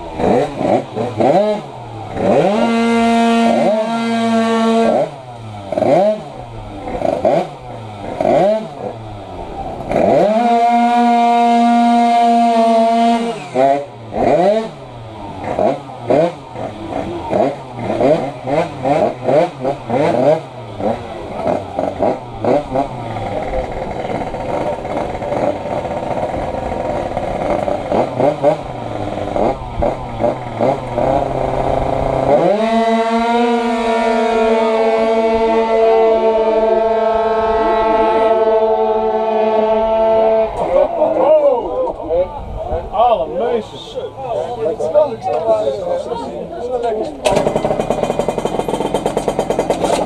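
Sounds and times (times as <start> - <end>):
scooter engine revving: 0.0 - 41.2, 44.5 - 50.0.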